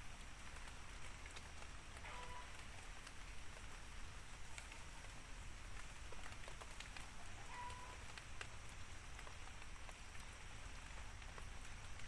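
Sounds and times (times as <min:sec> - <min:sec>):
faint outdoor background hiss: 0:00.0 - 0:12.0
small ticks: 0:00.0 - 0:12.0.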